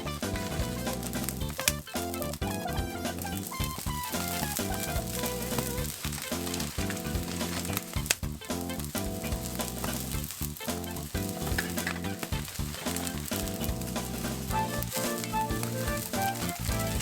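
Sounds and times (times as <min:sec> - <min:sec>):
background music: 0:00.0 - 0:17.0
food sizzling in a wok: 0:00.0 - 0:17.0.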